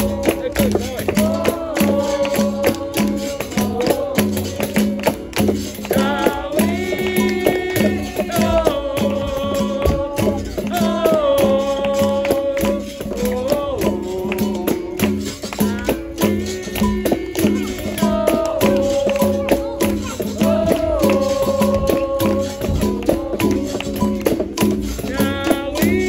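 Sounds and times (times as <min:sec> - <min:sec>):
person singing long lines: 0:00.0 - 0:05.2, 0:05.8 - 0:26.0
berimbau: 0:00.0 - 0:26.0
drum rhythm: 0:00.0 - 0:26.0
pandeiro: 0:00.0 - 0:26.0
shaker rattle: 0:00.0 - 0:26.0.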